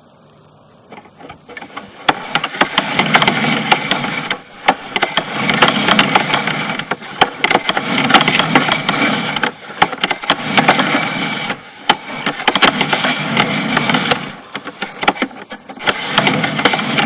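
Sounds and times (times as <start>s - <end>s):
cable clattering and scraping in pipe: 0.9s - 17.0s.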